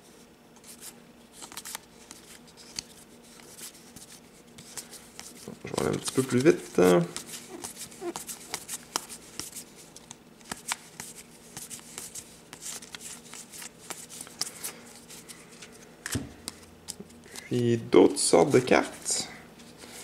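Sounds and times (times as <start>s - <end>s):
cards flipping and snapping: 1.4s - 17.5s.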